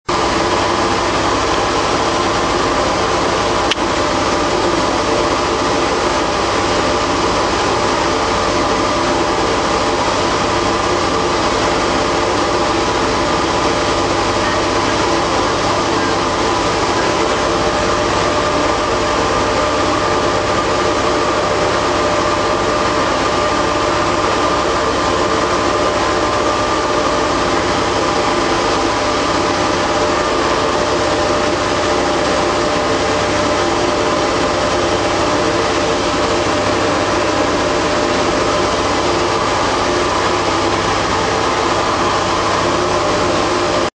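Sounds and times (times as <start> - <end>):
motors and pumps humming: 0.1 - 43.9.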